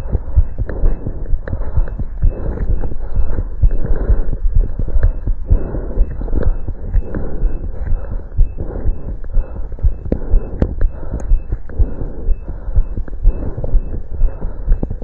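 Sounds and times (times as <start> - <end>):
heartbeat thumps: 0.0 - 15.0.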